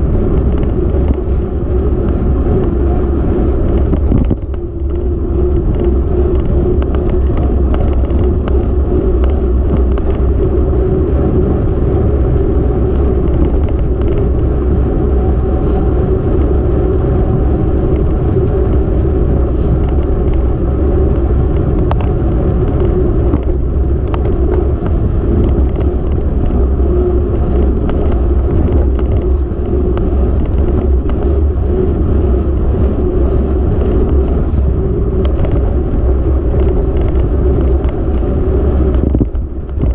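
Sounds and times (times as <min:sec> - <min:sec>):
road rush: 0:00.0 - 0:39.9
wind on microphone: 0:00.0 - 0:39.9.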